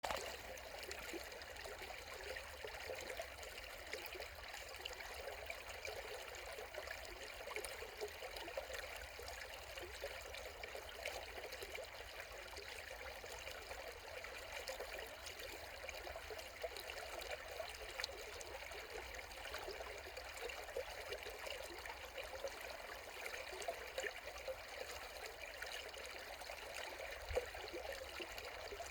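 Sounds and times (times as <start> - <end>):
brook babbling over stones: 0.0 - 28.9.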